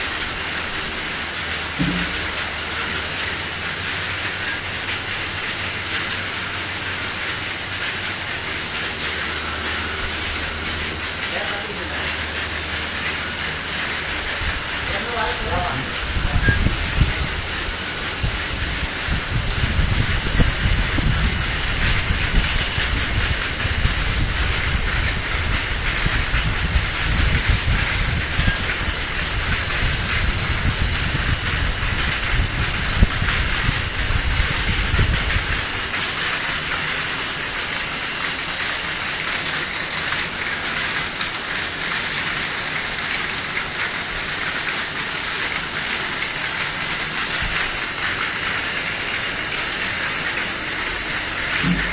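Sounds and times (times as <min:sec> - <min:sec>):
washer machine hissing: 0:00.0 - 0:51.9.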